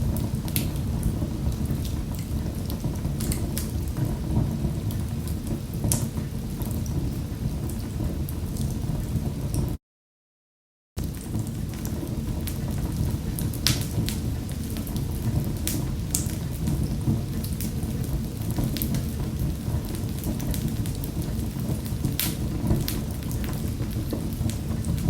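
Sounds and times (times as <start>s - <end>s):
fire crackling and popping: 0.0s - 9.8s, 11.0s - 25.0s
low rumble of flames: 0.0s - 9.8s, 11.0s - 25.0s.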